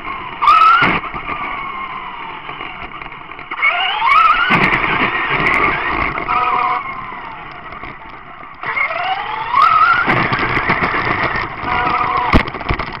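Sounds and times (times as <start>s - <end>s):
toy truck electric motor whining: 0.0s - 12.8s
tyre rumble on asphalt: 0.0s - 13.0s.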